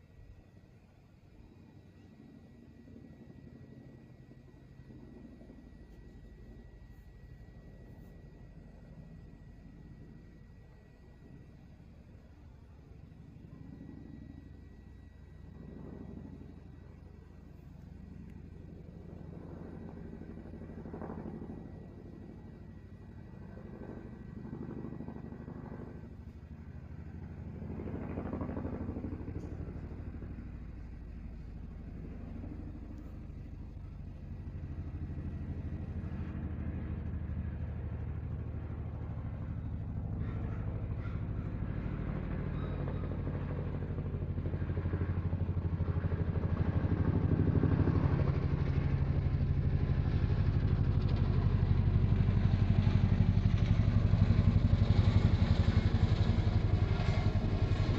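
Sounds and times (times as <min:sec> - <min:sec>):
engine pulsing drone: 0:00.0 - 0:57.9.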